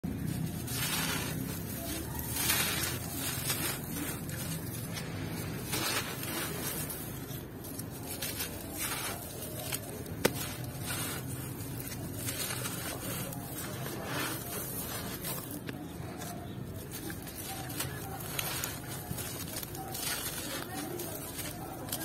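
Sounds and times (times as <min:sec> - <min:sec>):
brittle chunks crunching: 0:00.0 - 0:22.0.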